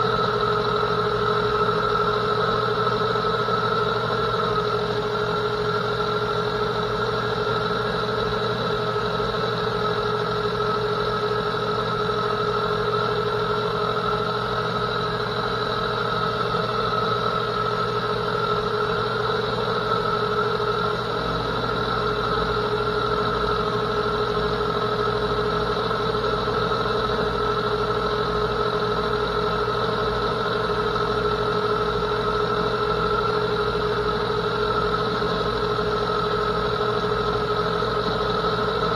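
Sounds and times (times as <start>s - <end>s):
gearing hum with steady tones: 0.0s - 38.9s
metal lathe running: 0.0s - 38.9s.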